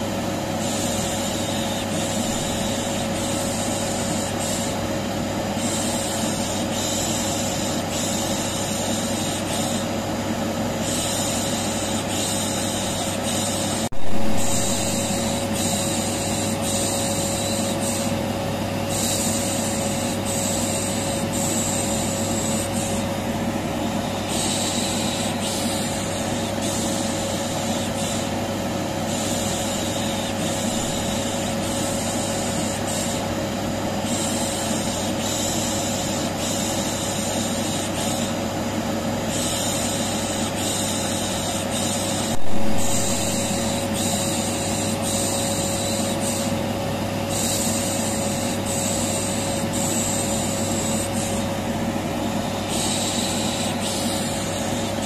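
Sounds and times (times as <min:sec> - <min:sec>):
vacuum cleaner running: 0:00.0 - 0:40.0, 0:40.9 - 0:55.0.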